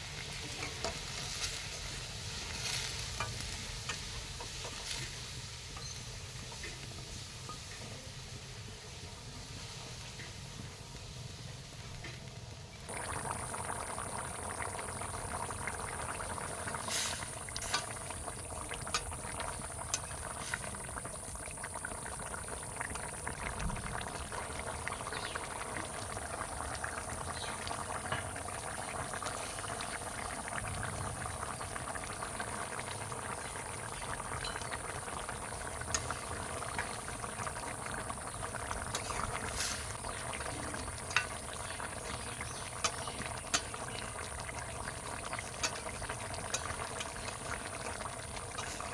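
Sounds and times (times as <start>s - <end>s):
curry bubbling in a pot: 0.0s - 48.9s.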